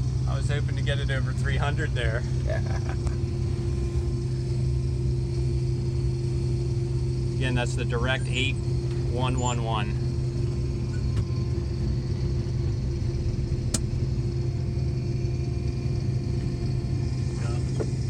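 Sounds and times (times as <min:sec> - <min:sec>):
combine harvester engine drone: 0:00.0 - 0:18.0.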